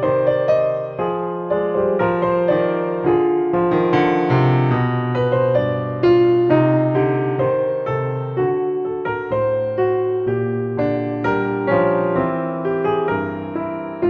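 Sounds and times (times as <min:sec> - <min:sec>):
gentle solo piano music: 0:00.0 - 0:14.0.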